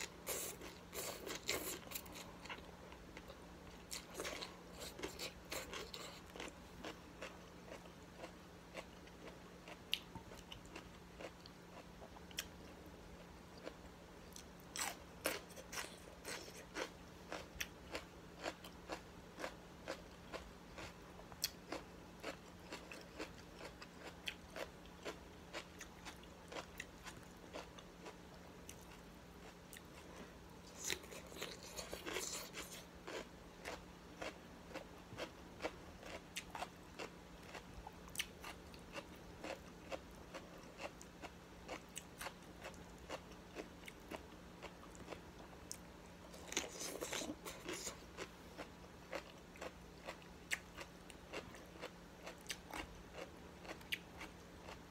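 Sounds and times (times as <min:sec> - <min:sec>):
chewing crunchy raw vegetables: 0:00.0 - 0:54.9.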